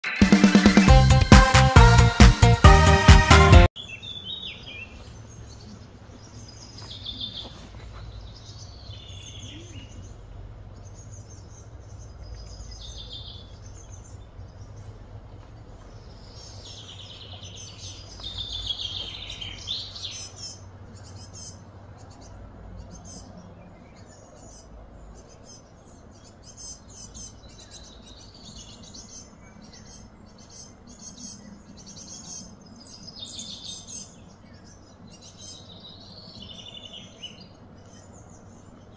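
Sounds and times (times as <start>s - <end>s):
birds chirping and calling: 3.8s - 38.9s
steady low hum: 4.8s - 38.9s.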